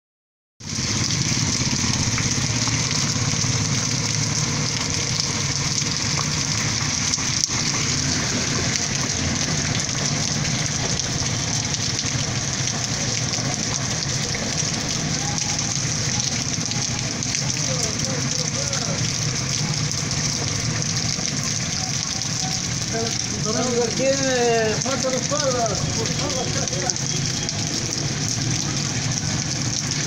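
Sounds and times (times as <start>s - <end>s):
torrential rain on pavement: 0.6s - 30.0s.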